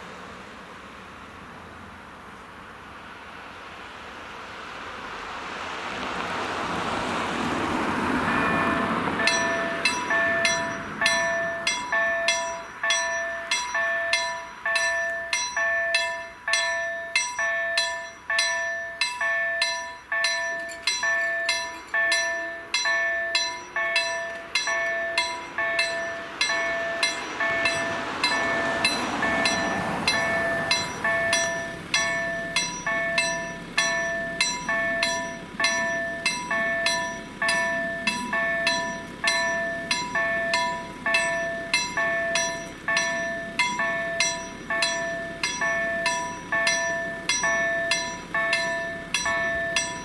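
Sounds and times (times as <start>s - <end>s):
approaching train: 0.0s - 50.0s
level-crossing warning bell: 7.7s - 50.0s.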